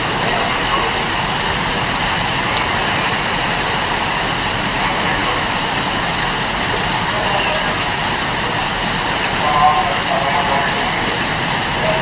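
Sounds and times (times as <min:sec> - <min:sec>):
heavy rain falling: 0:00.0 - 0:12.0
raindrop ticks: 0:00.0 - 0:12.0.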